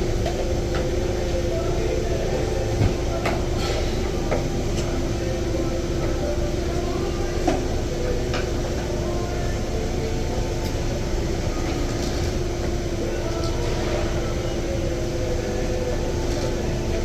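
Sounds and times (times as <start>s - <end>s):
mechanical running hum: 0.0s - 17.0s.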